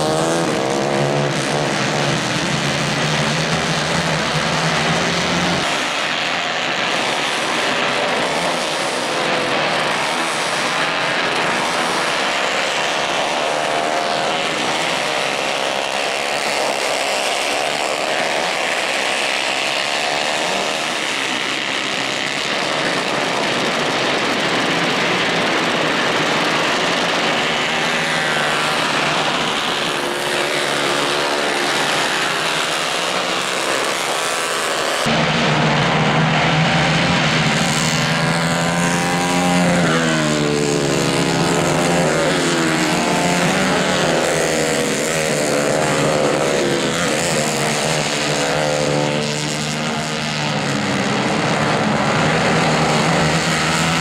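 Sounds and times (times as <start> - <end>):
kart engines racing past: 0.0 - 54.0.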